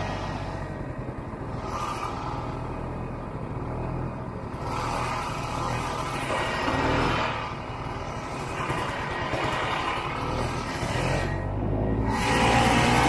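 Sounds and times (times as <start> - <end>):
snowmobile engine droning: 0.0 - 13.0
snowmobile track noise: 0.0 - 13.0.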